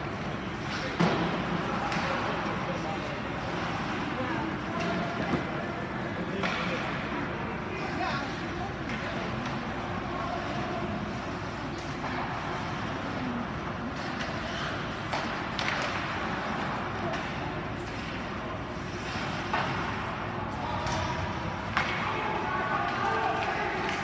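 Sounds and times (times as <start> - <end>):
faint voices: 0.0 - 24.0
hockey sticks and puck clacking: 0.0 - 24.0
skating and arena noise: 0.0 - 24.0.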